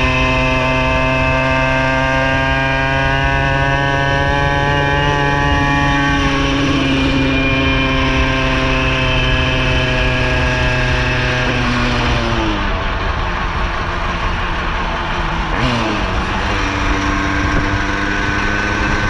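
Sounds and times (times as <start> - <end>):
two-stroke engine running: 0.0 - 19.0.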